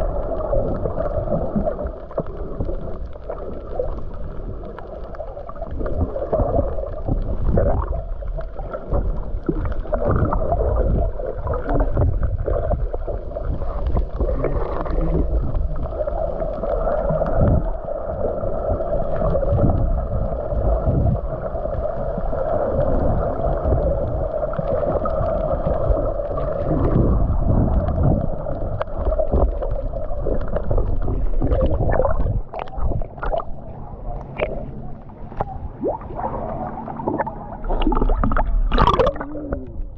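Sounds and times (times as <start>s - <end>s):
low rumble: 0.0s - 39.9s
muffled water rushing and gurgling: 0.0s - 39.9s.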